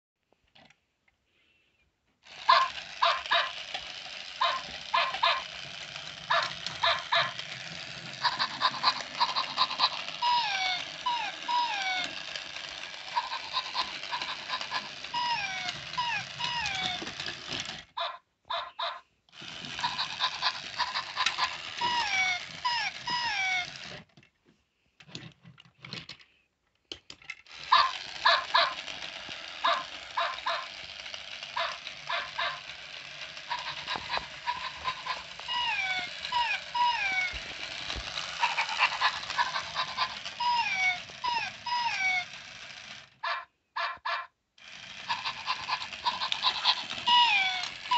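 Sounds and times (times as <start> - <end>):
toy electronic barks and yips: 2.3 - 24.0, 27.5 - 47.9
toy whimper-like chirps: 2.3 - 24.0, 27.5 - 47.9.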